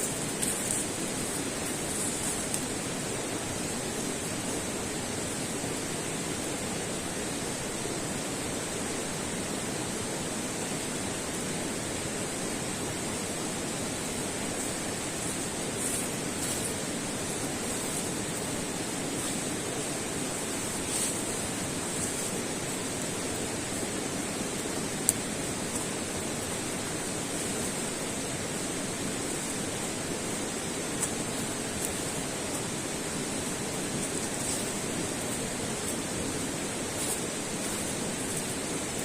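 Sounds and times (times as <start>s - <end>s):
rushing outdoor noise: 0.0s - 39.0s.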